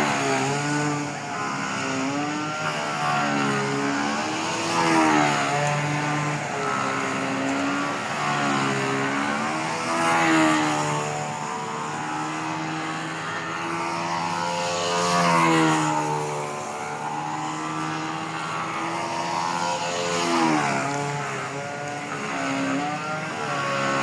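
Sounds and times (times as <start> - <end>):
model aeroplane engine at high revs: 0.0 - 24.0.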